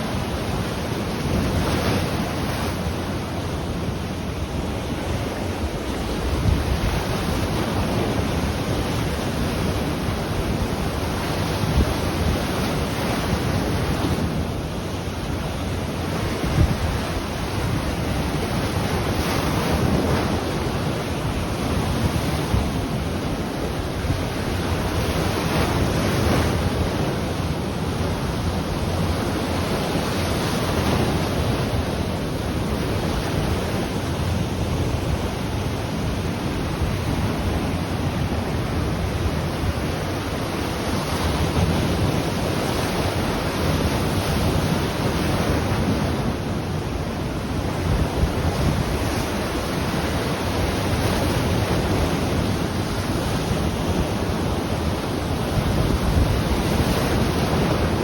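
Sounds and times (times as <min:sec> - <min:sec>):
ocean surf breaking on shore: 0:00.0 - 0:58.0
wind buffeting microphone: 0:00.0 - 0:58.0.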